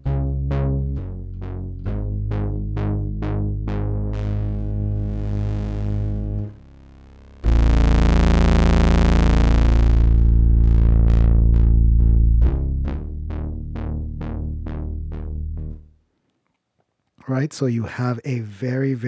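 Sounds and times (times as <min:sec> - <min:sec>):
pulsing synth bass note: 0:00.0 - 0:15.9.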